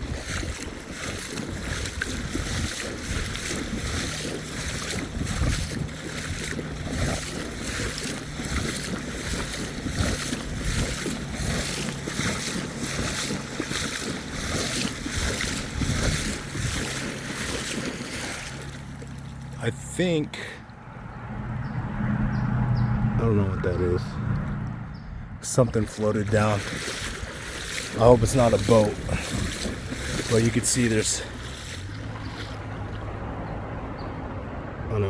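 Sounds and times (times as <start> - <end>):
wind buffeting microphone: 0.0 - 19.6, 24.3 - 34.4
floodwater rushing: 0.0 - 21.8, 25.4 - 35.0.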